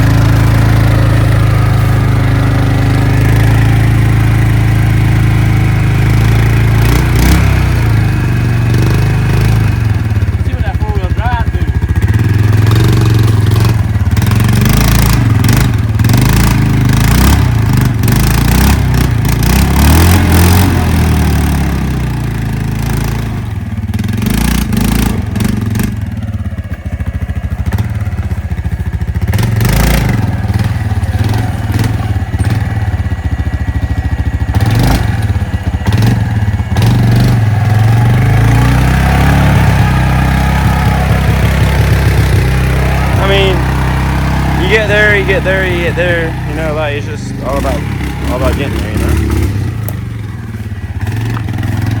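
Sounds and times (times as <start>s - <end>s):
vehicle engine revving: 0.0s - 52.0s.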